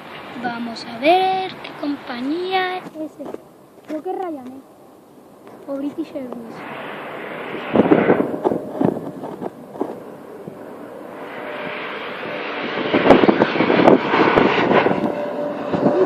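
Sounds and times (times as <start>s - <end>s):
jet airliner engine roar: 0.0s - 2.8s, 5.2s - 16.0s
faint steady whine: 0.0s - 16.0s.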